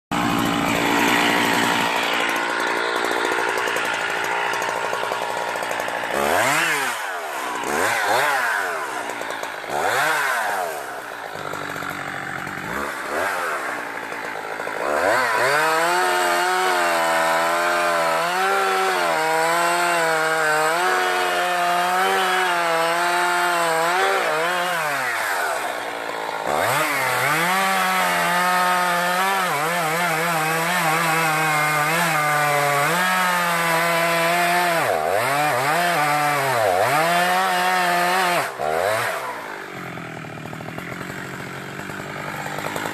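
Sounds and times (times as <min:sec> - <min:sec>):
chainsaw cutting a tree: 0:00.1 - 0:42.9.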